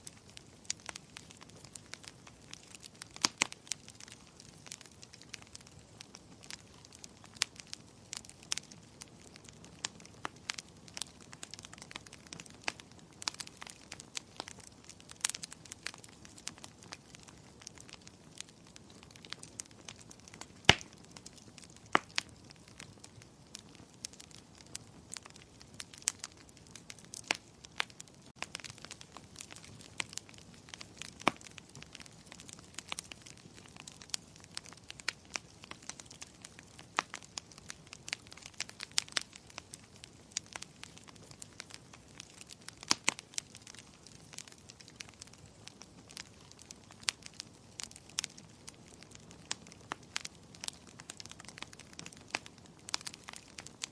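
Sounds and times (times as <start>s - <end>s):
soft steady hiss: 0.0s - 53.9s
wood fire crackling: 0.0s - 53.9s.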